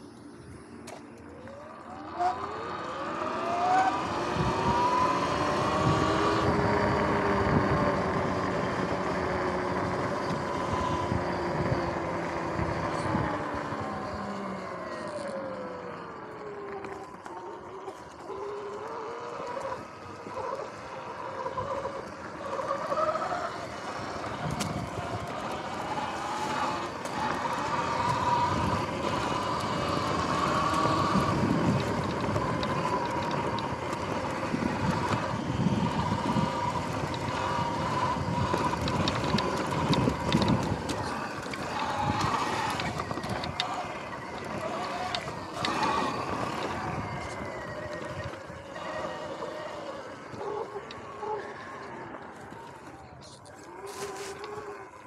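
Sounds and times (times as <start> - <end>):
electric motor whine: 0.0 - 55.0
tyre and ride noise: 0.0 - 55.0.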